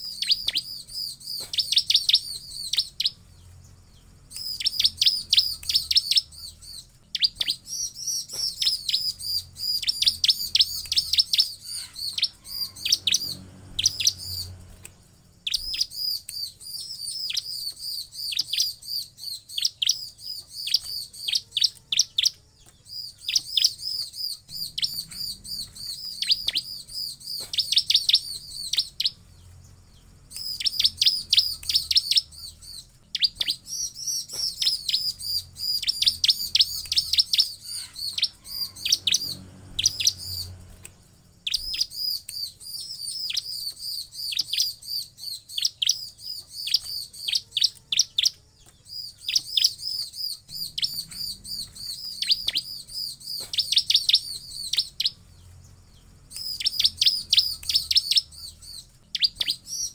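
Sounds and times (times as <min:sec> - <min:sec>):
bird singing high sharp chirps: 0:00.0 - 0:59.9.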